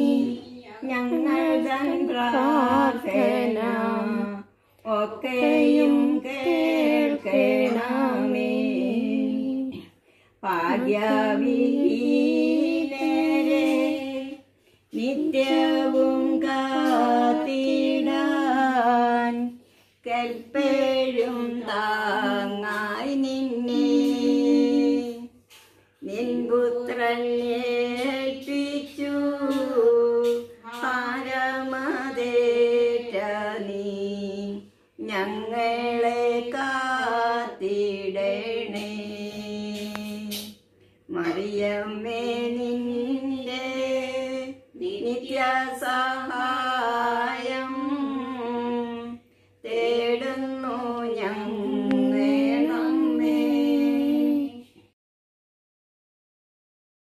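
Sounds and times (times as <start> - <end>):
woman singing a hymn unaccompanied: 0.0 - 54.8.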